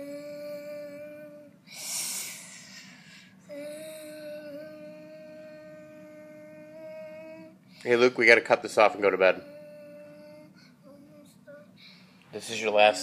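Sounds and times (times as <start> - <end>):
child humming: 0.0 - 7.6, 9.2 - 12.0.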